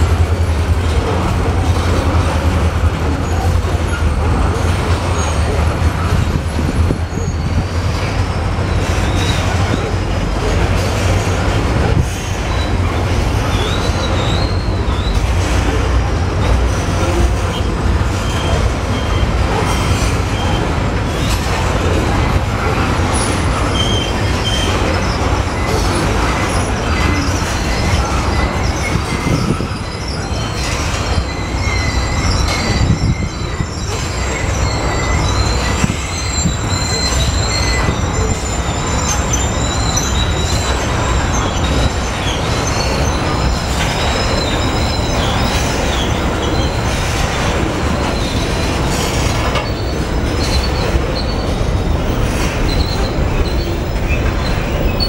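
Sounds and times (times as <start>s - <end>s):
high wheel squeals: 0.0s - 55.0s
train wheels rumbling on rail: 0.0s - 55.0s.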